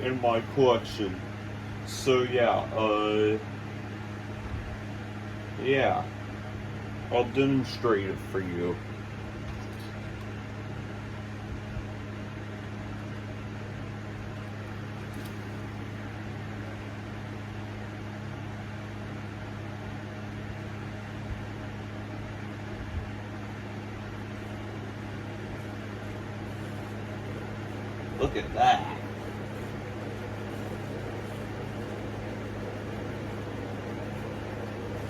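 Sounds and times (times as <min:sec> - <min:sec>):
air rushing from fan blades: 0:00.0 - 0:19.1, 0:19.8 - 0:35.0
ceiling fan motor hum: 0:00.0 - 0:35.0.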